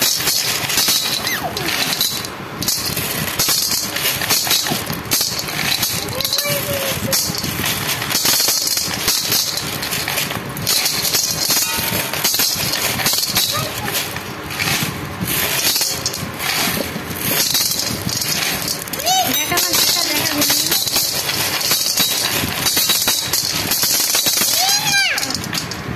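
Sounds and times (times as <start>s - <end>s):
glass marbles clinking in metal basin: 0.0s - 25.9s.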